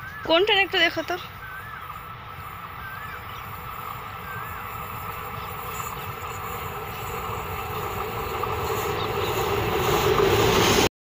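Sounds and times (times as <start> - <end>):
train noise: 0.0 - 10.9
locomotive engine buzz: 0.7 - 10.9.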